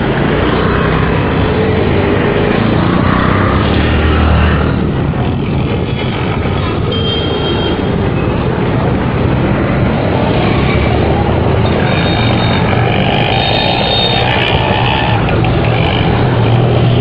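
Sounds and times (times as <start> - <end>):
passing vehicles engines and tyres: 0.0 - 17.0.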